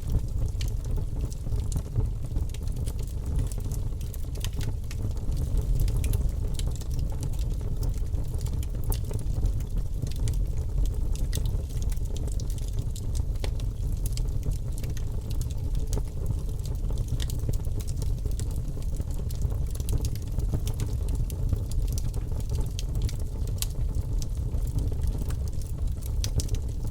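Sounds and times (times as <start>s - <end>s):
low rumble of flames: 0.0s - 26.9s
wood fire crackling: 0.0s - 26.9s.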